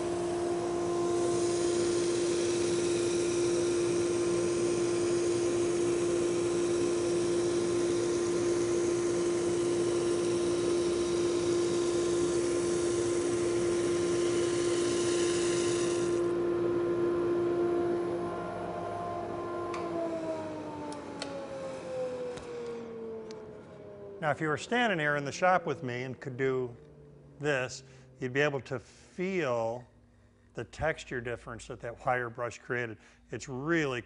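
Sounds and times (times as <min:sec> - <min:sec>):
sander motor hum: 0:00.0 - 0:28.6.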